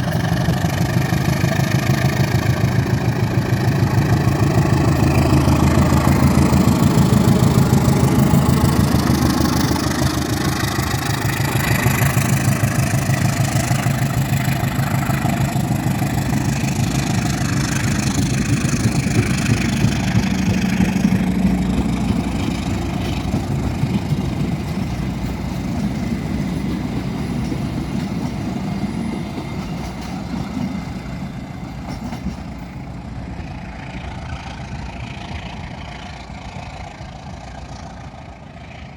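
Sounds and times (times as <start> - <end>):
diesel locomotive engine rumble: 0.0 - 38.9.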